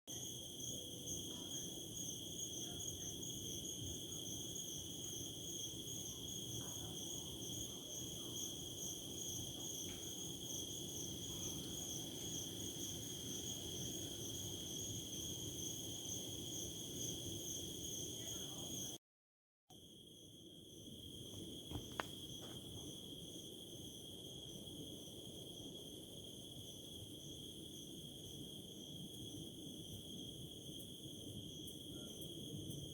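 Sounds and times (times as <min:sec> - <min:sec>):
crickets chirping: 0:00.1 - 0:19.0, 0:19.7 - 0:32.9.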